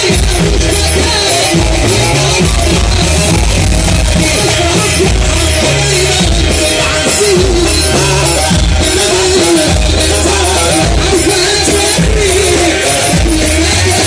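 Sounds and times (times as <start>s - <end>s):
live wedding band music: 0.0s - 14.0s.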